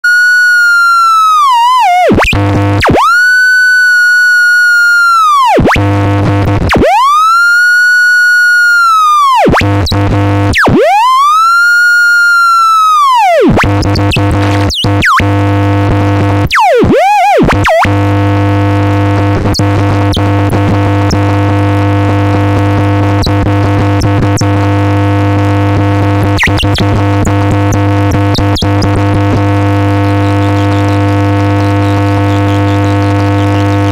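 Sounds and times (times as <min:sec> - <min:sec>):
siren-like electronic tone: 0:00.0 - 0:33.9.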